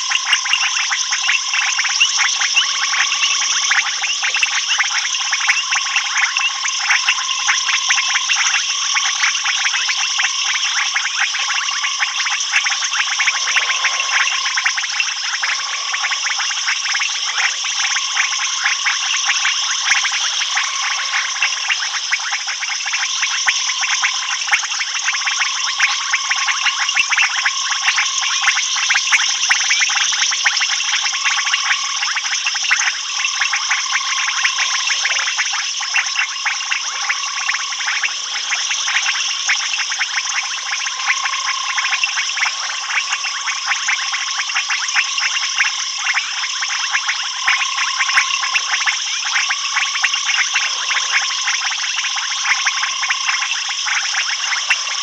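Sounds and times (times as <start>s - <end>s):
frogs clicking calls: 0.0s - 55.0s
insects high trill: 0.0s - 55.0s.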